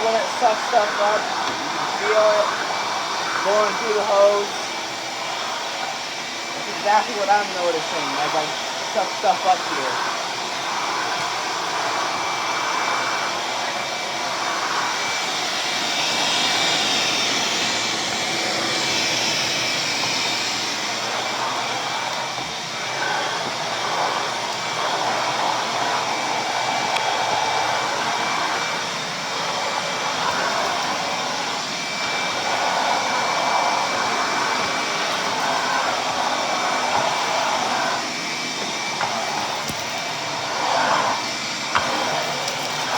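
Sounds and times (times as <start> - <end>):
shop vacuum running: 0.0 - 42.9
vacuum sucking up debris: 0.0 - 42.9.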